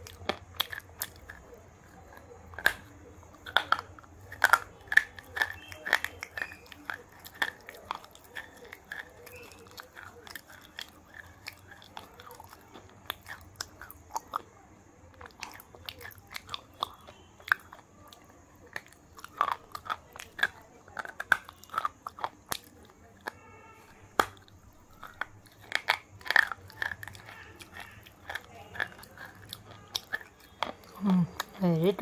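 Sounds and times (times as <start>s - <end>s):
crunching wafer bars: 0.0s - 32.0s.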